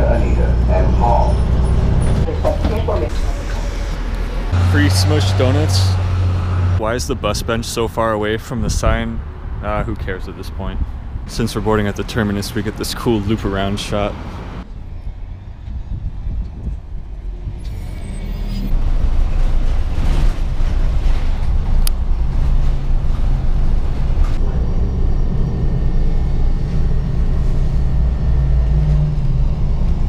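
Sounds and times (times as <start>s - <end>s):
bus engine and road rumble: 0.0s - 30.0s
street traffic: 0.0s - 30.0s.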